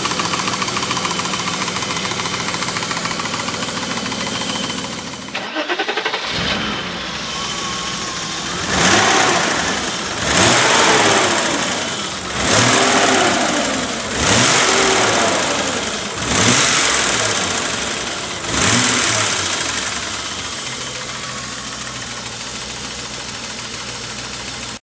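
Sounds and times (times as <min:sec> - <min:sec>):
car engine revving and idling: 0:00.0 - 0:24.8.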